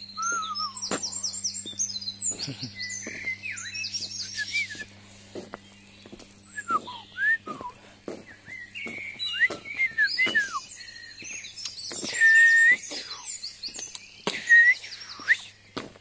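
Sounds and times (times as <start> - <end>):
songbirds whistling: 0.0 - 16.0.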